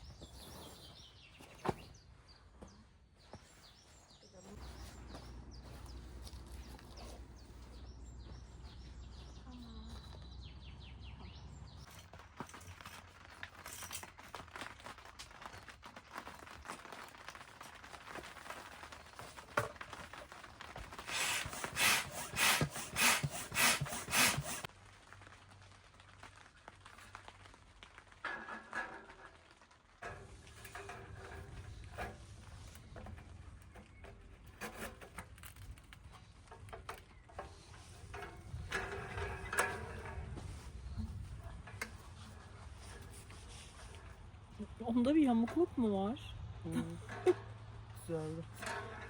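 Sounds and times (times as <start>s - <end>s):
rustling and scraping handling: 0.0s - 10.3s, 11.8s - 24.7s, 28.2s - 45.9s.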